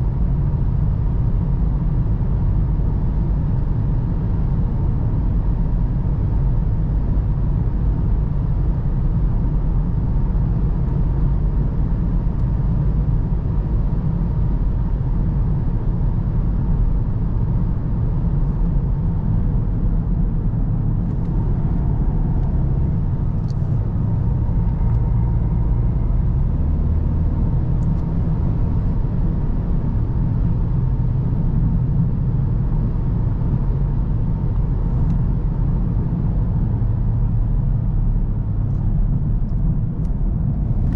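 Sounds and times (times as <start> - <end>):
diesel car engine and tyres driving: 0.0 - 40.9.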